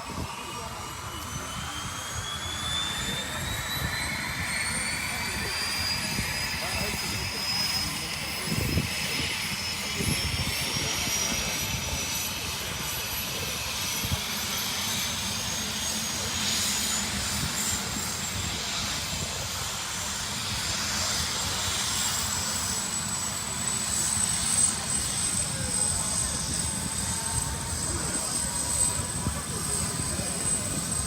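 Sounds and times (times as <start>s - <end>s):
helicopter turbine whine: 0.0s - 31.0s.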